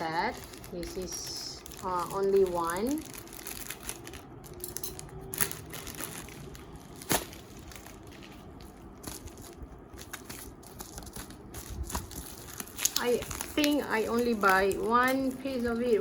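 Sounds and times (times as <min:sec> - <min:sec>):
packaging crinkling and rustling: 0:00.0 - 0:16.0.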